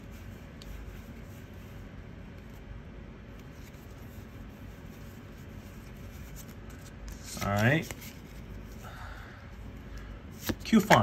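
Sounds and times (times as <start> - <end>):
trading cards sliding and rubbing: 0.0 - 8.9, 9.6 - 11.0.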